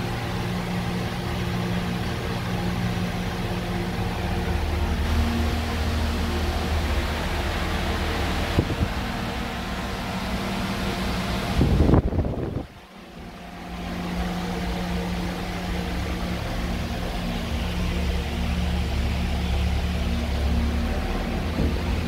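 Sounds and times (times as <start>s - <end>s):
machine hum: 0.0s - 22.0s
noisy rush: 0.0s - 22.0s.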